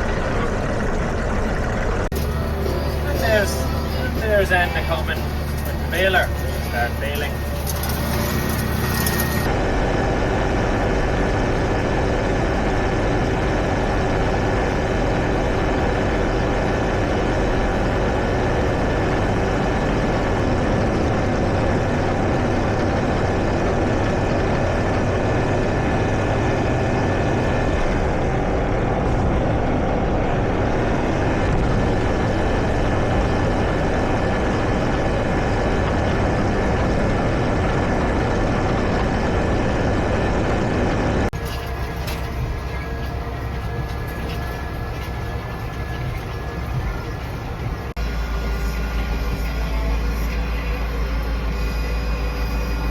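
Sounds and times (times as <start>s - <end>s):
machinery engine drone: 0.0s - 52.9s
thin steady whine: 0.0s - 52.9s.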